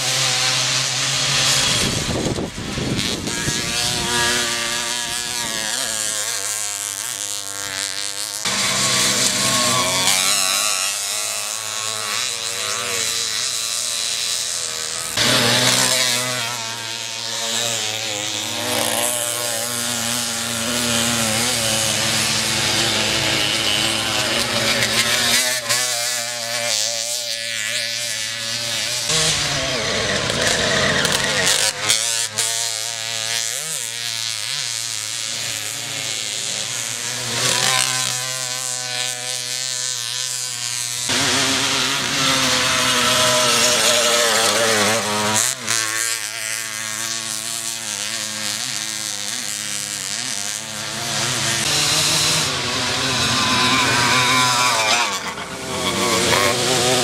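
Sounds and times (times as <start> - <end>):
moped engines buzzing and revving: 0.0 - 57.0.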